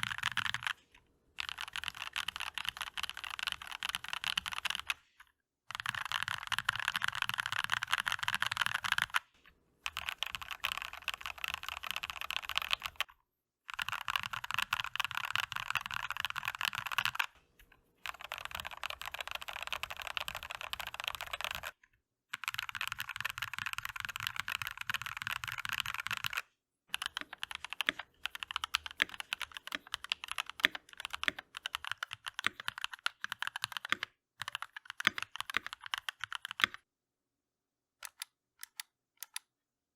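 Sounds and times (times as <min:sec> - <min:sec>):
mechanical keyboard typing: 0:00.0 - 0:00.8, 0:01.4 - 0:05.0, 0:05.7 - 0:13.1, 0:13.7 - 0:17.4, 0:18.0 - 0:36.9, 0:38.0 - 0:39.5.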